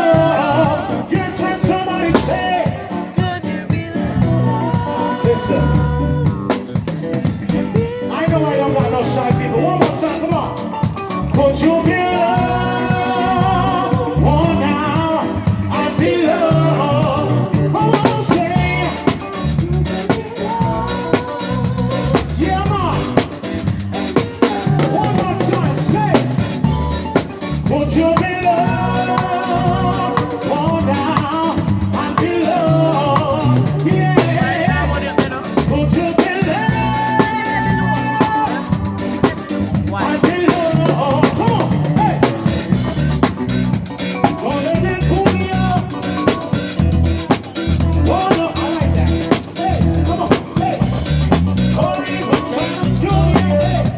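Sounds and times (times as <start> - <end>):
live band playing upbeat song: 0.0 - 53.9
person singing: 0.0 - 53.9.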